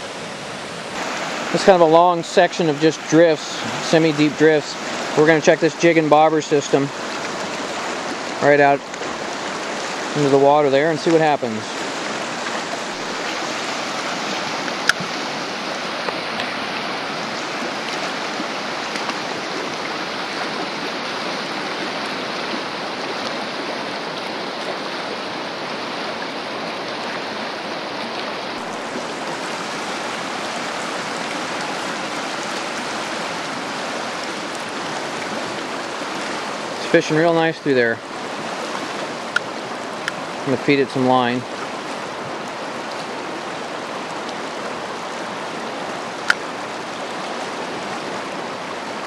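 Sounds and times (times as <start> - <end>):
river current rushing: 0.0 - 49.0.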